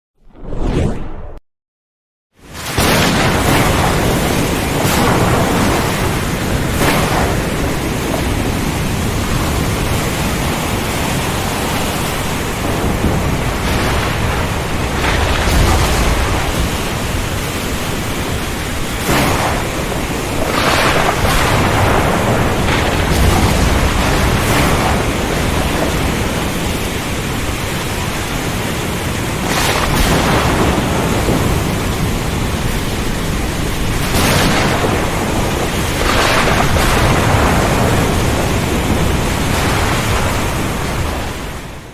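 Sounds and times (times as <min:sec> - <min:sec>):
heavy rain and wind hissing: 0:02.4 - 0:41.9
deep thunder rumbling: 0:02.6 - 0:41.9.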